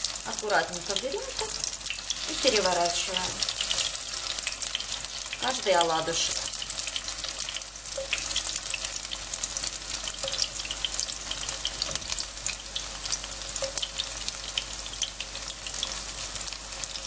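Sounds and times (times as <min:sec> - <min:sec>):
fritters sizzling in oil: 0:00.0 - 0:17.0.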